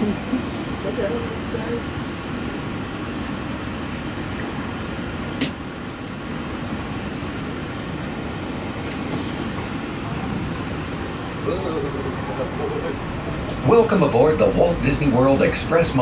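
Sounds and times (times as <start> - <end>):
monorail car hum and rumble: 0.0 - 16.0.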